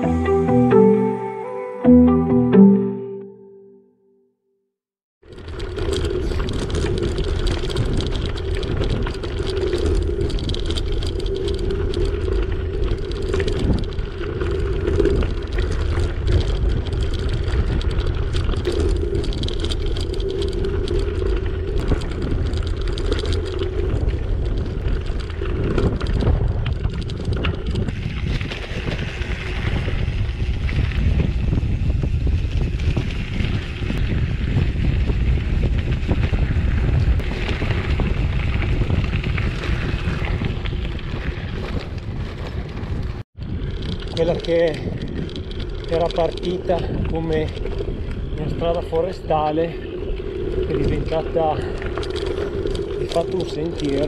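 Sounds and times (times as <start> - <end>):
wind rumbling on microphone: 5.2 - 54.0
bike tyres crunching on stones: 5.3 - 54.0.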